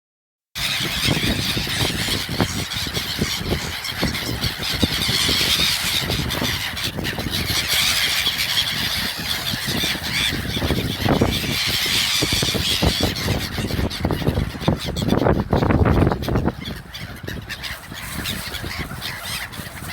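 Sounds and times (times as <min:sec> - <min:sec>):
flock of birds calling: 0:00.6 - 0:19.9.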